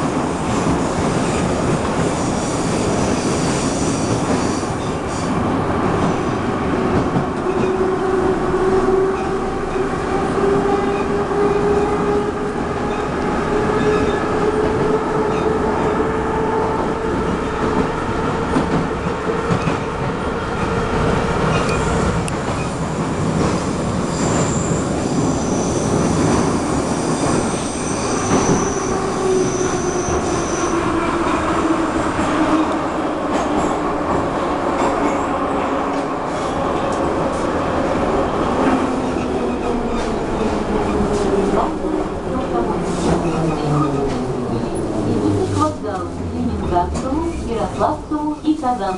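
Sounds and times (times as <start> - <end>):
train wheels roaring on rails: 0.0 - 48.9.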